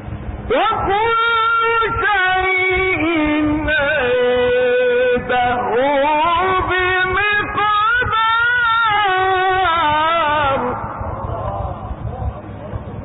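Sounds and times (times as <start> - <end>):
man reciting melodically: 0.4 - 12.1.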